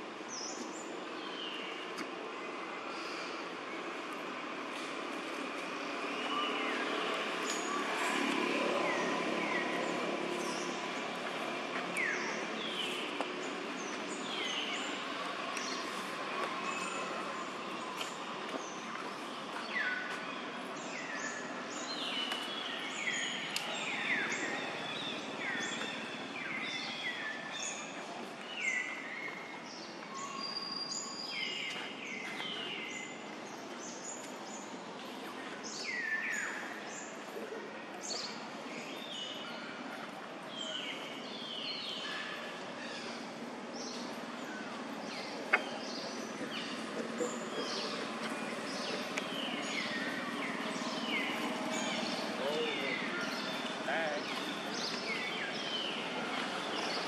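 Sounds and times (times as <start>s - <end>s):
steady background noise: 0.0s - 57.0s
birds chirping: 0.2s - 57.0s.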